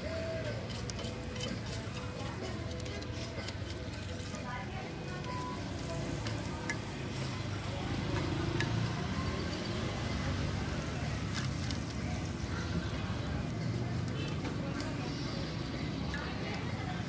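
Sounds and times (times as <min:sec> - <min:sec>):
hot mold sizzling: 0:00.2 - 0:17.0
brush spreading grease: 0:00.5 - 0:15.3.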